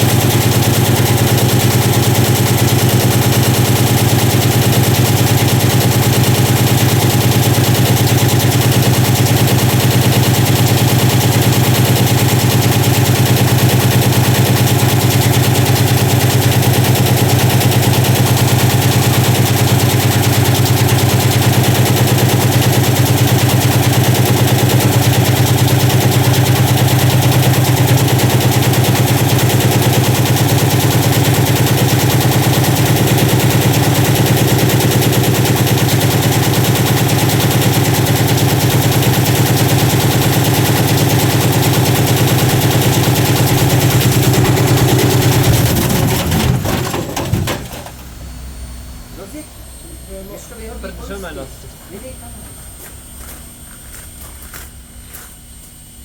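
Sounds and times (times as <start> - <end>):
washing machine motor hum: 0.0 - 56.0.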